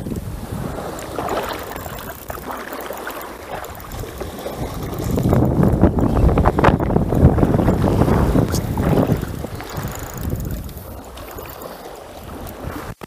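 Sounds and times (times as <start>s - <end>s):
wind buffeting microphone: 0.0s - 2.6s, 3.4s - 13.0s
small waves lapping: 0.0s - 13.0s.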